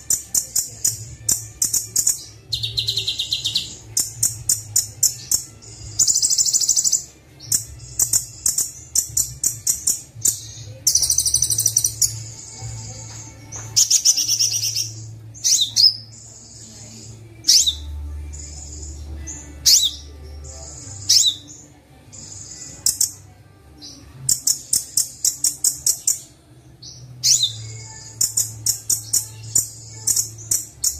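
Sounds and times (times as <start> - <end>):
sunbird singing: 0.0 - 30.9.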